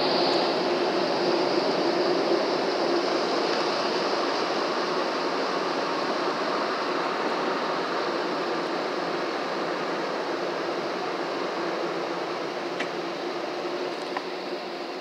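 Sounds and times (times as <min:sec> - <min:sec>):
car wash rushing noise: 0:00.0 - 0:15.0.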